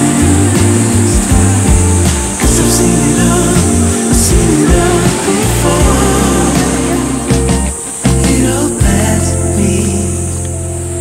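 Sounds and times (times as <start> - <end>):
pop music with bass and drums: 0.0 - 11.0.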